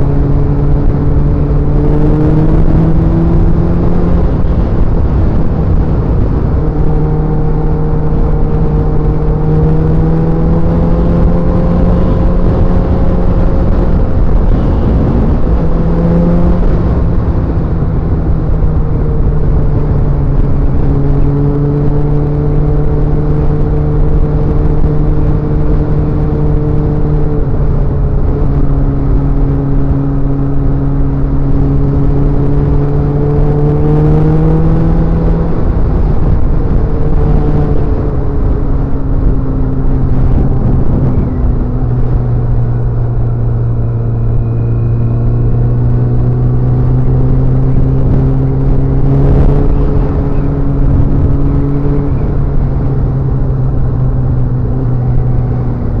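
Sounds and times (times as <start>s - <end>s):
motorcycle engine changing gears: 0.0s - 56.0s.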